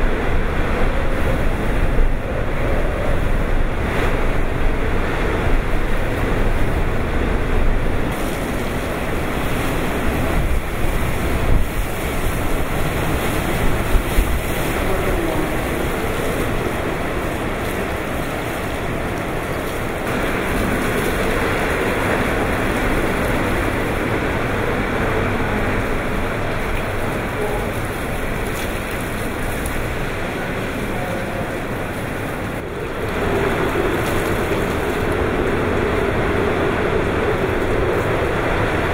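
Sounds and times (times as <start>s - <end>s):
driving rain: 0.0s - 38.9s
strong wind: 0.0s - 38.9s
wind buffeting microphone: 0.0s - 38.9s.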